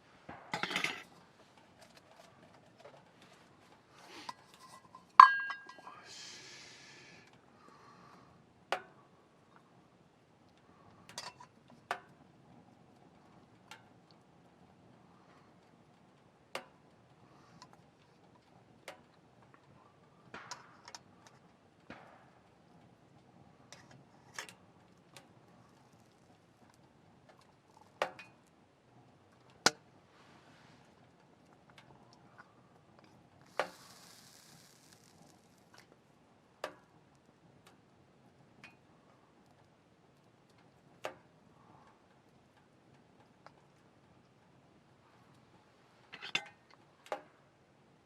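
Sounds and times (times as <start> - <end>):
wood fire crackling: 0.0 - 47.3.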